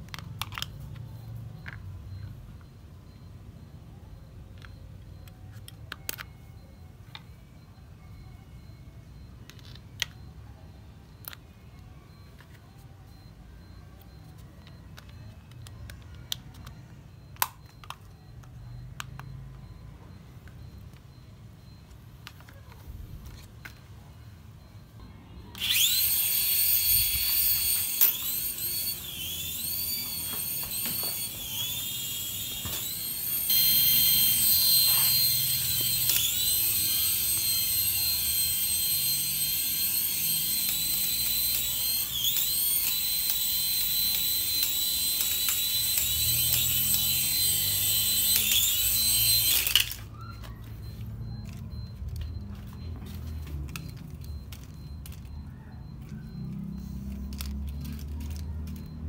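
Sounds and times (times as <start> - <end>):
toy helicopter rotor motors whining: 9.4 - 59.0.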